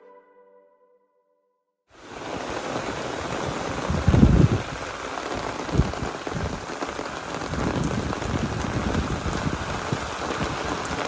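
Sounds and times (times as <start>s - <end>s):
rain pattering: 2.0s - 11.0s.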